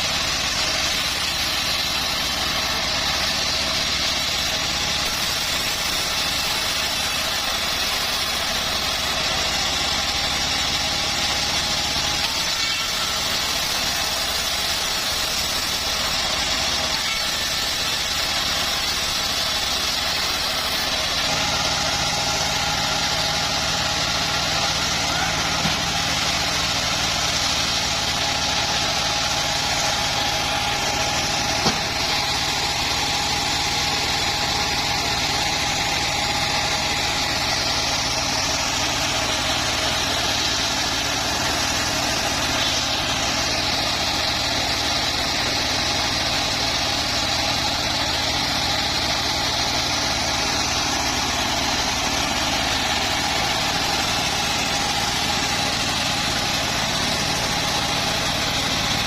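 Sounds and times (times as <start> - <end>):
bandsaw mill running: 0.0 - 59.0.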